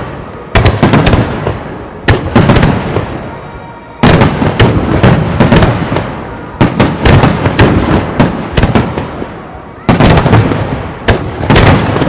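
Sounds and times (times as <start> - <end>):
fireworks bursts and crackling: 0.0 - 12.0.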